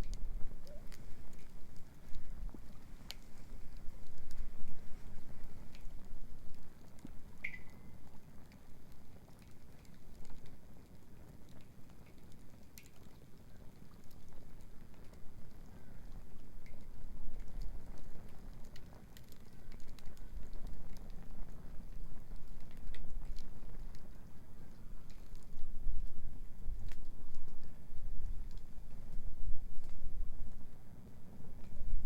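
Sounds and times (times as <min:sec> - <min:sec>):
fire popping: 0:00.0 - 0:32.0
low fire rumble: 0:00.0 - 0:32.0
wood bonfire crackling: 0:00.0 - 0:32.0.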